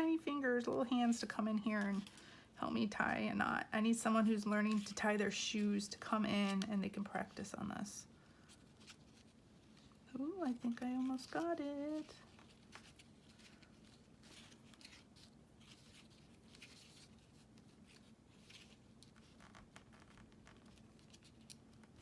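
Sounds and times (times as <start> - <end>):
faint rustles of hands on paper: 0.0 - 22.0.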